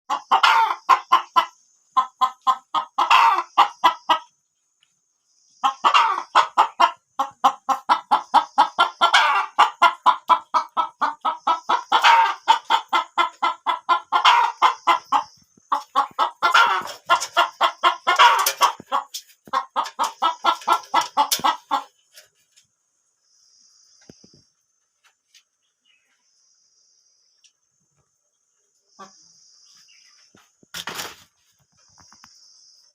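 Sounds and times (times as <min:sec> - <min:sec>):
chickens clucking: 0:00.1 - 0:04.5, 0:05.5 - 0:23.0, 0:27.4 - 0:32.4.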